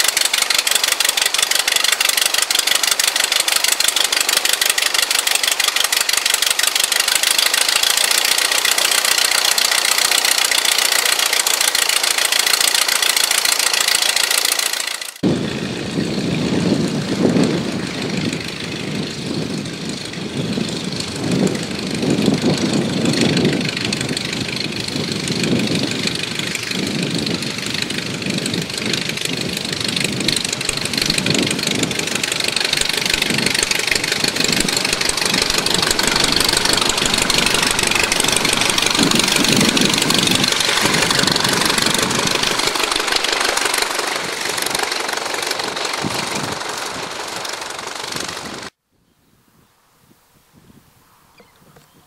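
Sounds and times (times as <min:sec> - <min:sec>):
propeller plane engine: 0:00.0 - 0:48.8.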